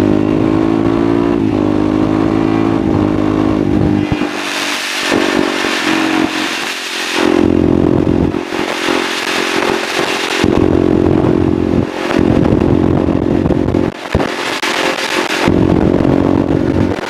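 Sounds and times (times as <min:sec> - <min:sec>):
motorcycle engine running: 0:00.0 - 0:17.0
wind rush: 0:02.8 - 0:17.0.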